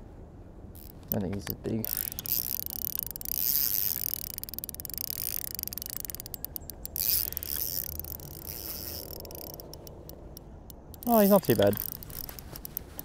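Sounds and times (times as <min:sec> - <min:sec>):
fishing reel winding: 0:00.8 - 0:01.2, 0:01.8 - 0:13.0
reel ticking: 0:00.8 - 0:13.0.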